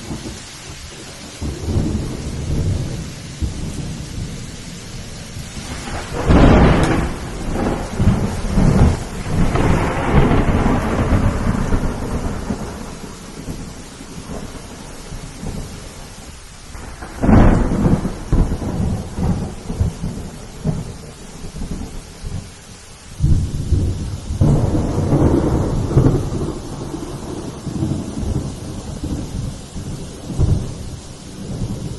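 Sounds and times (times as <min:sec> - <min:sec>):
rain falling: 0:00.0 - 0:31.9
rolling thunder: 0:00.0 - 0:31.9.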